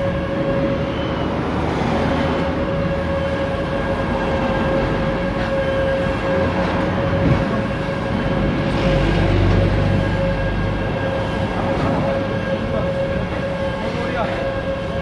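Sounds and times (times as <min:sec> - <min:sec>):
machine drone with whine: 0:00.0 - 0:15.0.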